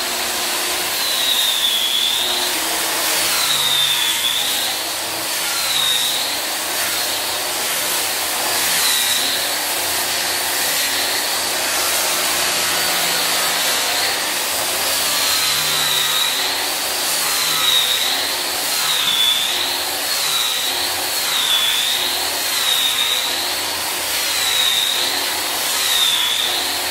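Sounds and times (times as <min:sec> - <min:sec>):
angle grinder sanding wood: 0:00.0 - 0:26.9.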